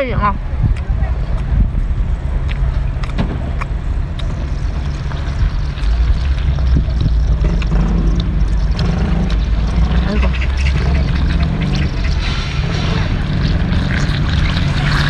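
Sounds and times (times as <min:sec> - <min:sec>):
low motor drone: 0:00.0 - 0:15.0.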